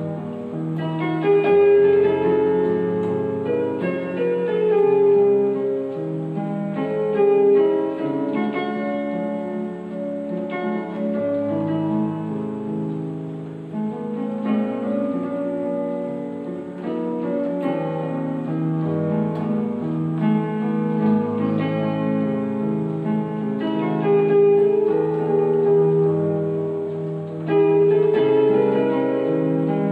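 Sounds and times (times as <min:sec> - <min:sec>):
electronic keyboard melody: 0:00.0 - 0:29.9.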